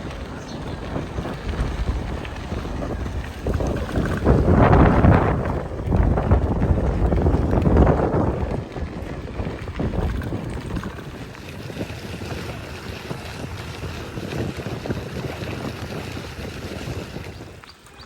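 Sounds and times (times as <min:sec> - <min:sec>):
bicycle knocks and rattles: 0:00.0 - 0:17.8
wind rushing over microphone: 0:00.0 - 0:18.0.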